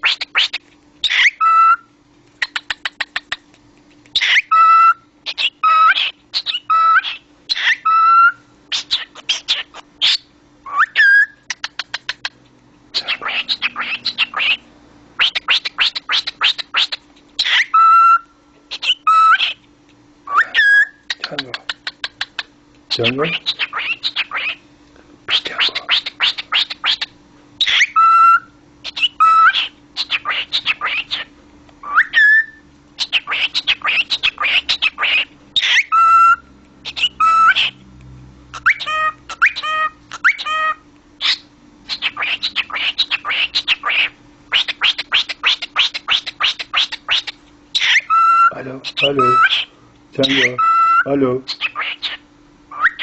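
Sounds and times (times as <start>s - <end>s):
cockatiel squawk: 0.0s - 3.4s, 4.2s - 19.6s, 20.3s - 24.6s, 25.3s - 37.8s, 38.5s - 53.0s
cockatiel whistling: 0.0s - 3.4s, 4.1s - 12.4s, 13.0s - 19.6s, 20.3s - 24.6s, 25.3s - 37.8s, 38.6s - 53.0s
cockatiel chirping: 0.0s - 3.5s, 4.1s - 19.6s, 20.3s - 24.6s, 25.3s - 37.8s, 38.5s - 53.0s.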